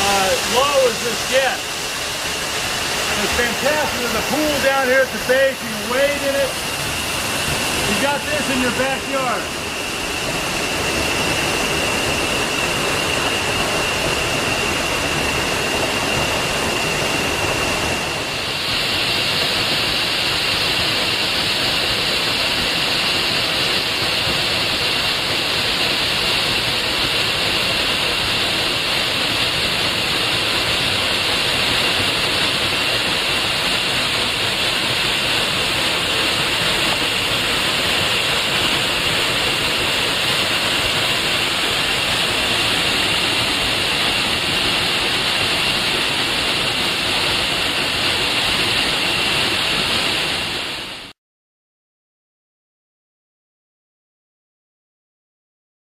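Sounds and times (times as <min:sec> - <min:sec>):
waterfall rushing: 0:00.0 - 0:51.1.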